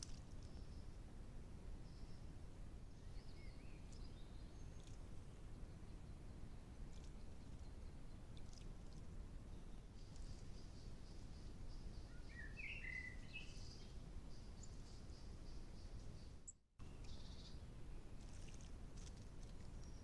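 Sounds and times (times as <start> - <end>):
faint birdsong and chirps: 0.0 - 20.0
low background hiss: 0.0 - 20.0.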